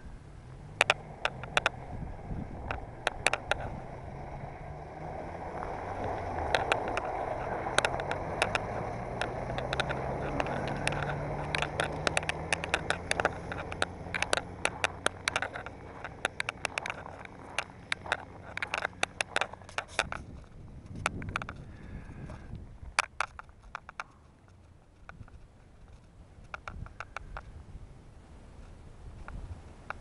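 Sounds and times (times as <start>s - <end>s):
road noise: 0.0s - 30.0s
truck engine humming: 0.0s - 30.0s
sharp clicks and rattles: 0.7s - 27.5s.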